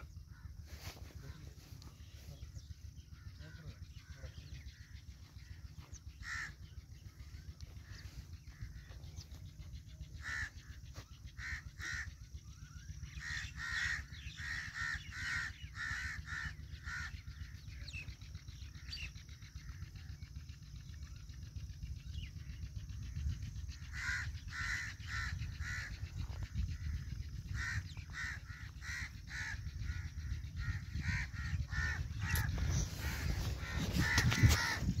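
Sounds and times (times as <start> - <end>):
crows cawing: 0.0 - 20.2, 23.7 - 35.0
steady low rumble: 0.0 - 35.0.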